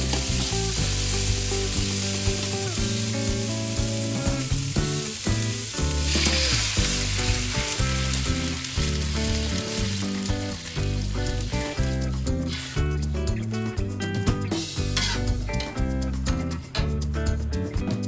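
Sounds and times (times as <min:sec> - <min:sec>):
food sizzling in hot oil: 0:00.0 - 0:13.6, 0:14.6 - 0:15.8
background music: 0:00.0 - 0:18.0.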